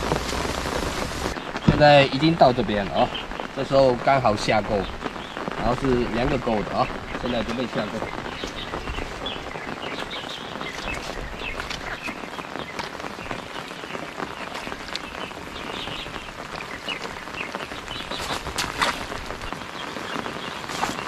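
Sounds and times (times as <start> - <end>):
heavy rain on water: 0.0 - 21.0.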